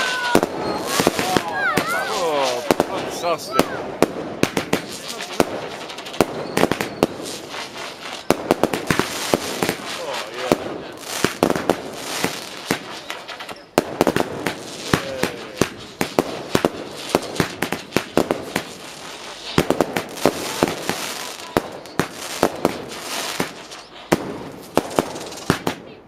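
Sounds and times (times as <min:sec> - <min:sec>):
fireworks bangs: 0:00.0 - 0:26.0
fireworks crackle: 0:00.0 - 0:26.0.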